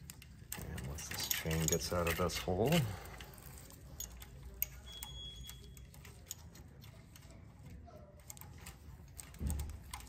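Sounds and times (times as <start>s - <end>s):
timing chain links clicking: 0.0s - 10.0s.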